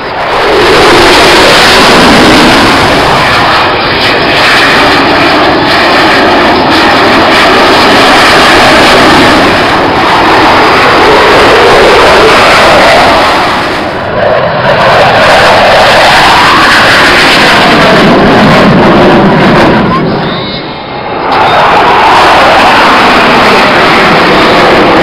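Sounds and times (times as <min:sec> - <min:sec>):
jet aircraft roaring past: 0:00.0 - 0:25.0.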